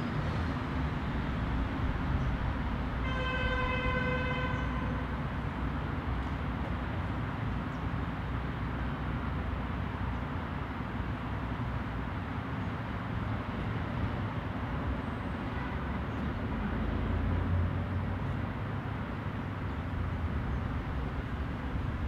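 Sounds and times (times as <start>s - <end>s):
distant traffic rumble: 0.0s - 22.0s.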